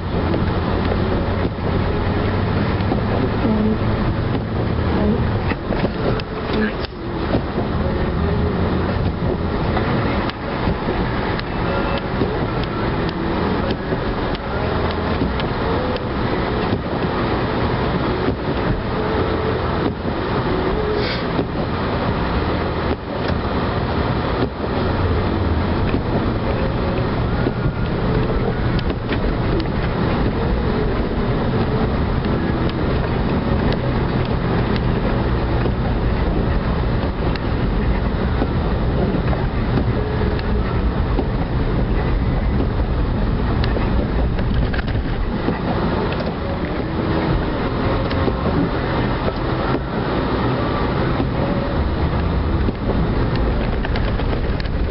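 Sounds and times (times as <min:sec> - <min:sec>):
plow engine running under load: 0:00.0 - 0:54.9.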